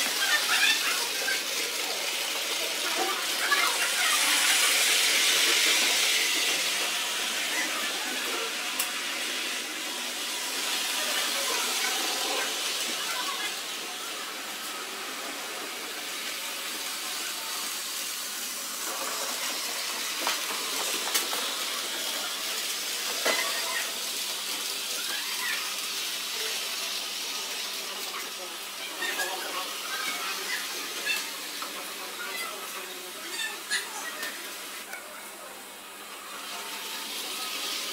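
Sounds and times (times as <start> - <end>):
model trains rolling: 0.0 - 33.5.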